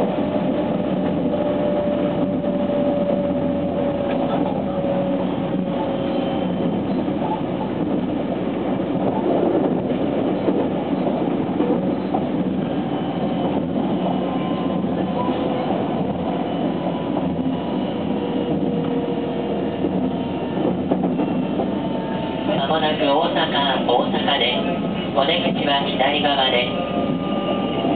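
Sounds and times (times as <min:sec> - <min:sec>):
train wheels rumbling on rail: 0:00.0 - 0:27.9.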